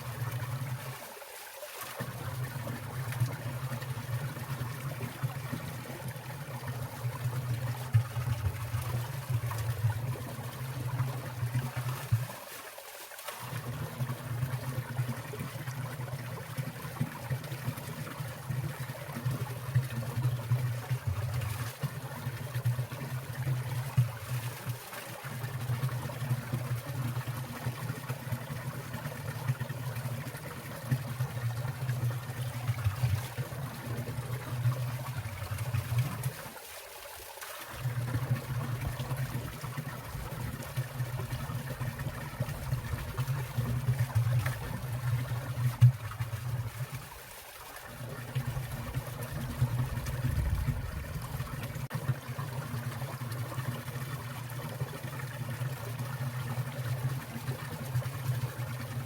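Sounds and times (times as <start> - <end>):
low water rush: 0.0 - 59.0
stream trickling and splashing: 0.0 - 59.0.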